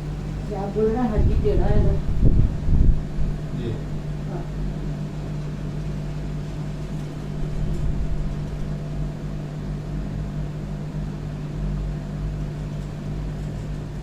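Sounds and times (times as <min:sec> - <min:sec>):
low mechanical hum with hiss: 0:00.0 - 0:14.0.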